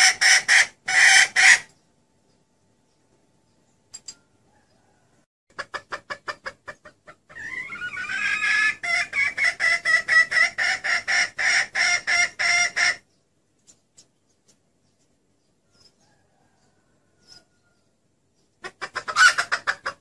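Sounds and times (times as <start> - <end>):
hen clucking and cackling: 0.0 - 1.8, 4.2 - 13.2, 14.4 - 20.0.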